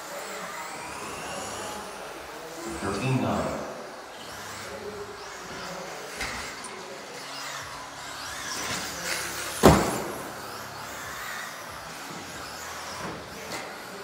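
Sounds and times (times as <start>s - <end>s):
rc car motor whine: 0.0s - 14.0s.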